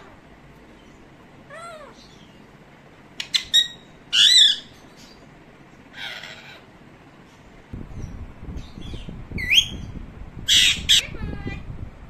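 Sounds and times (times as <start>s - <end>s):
parakeet calling: 0.0s - 2.5s, 3.2s - 7.4s, 8.0s - 11.6s.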